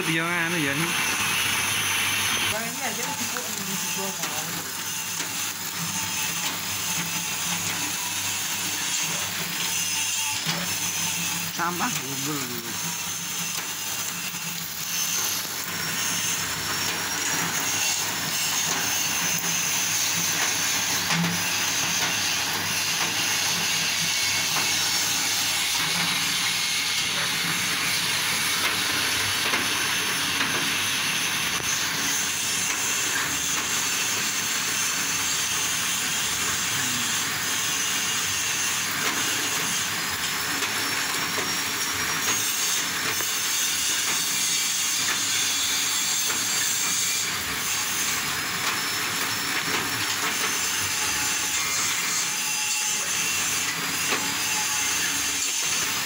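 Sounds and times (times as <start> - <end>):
bamboo-shaving machine running: 0.0 - 56.0.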